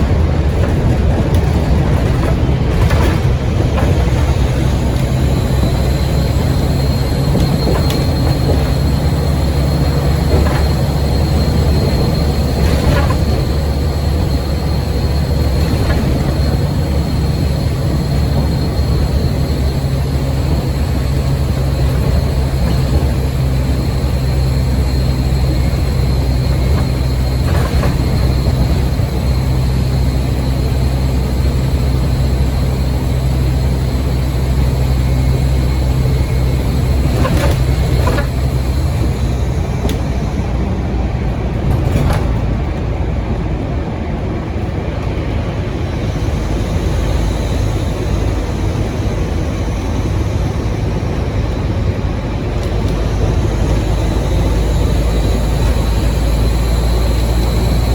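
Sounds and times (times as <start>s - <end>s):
bus engine drone: 0.0s - 57.9s
turbo whine: 0.0s - 57.9s.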